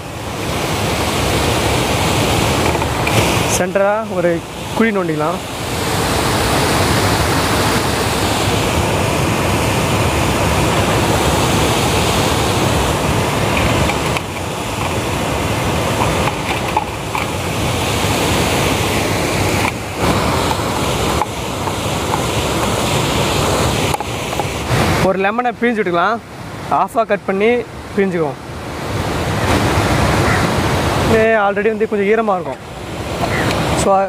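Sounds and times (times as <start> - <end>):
water rushing over a weir: 0.0 - 34.0.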